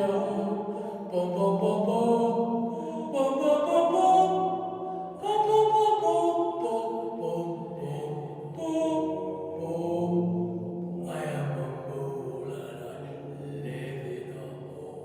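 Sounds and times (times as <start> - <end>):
voices singing chords: 0.0 - 15.0.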